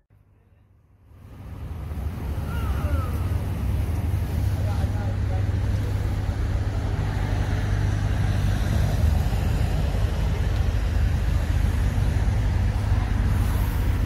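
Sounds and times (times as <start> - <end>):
car engine rumbling: 1.0 - 14.0.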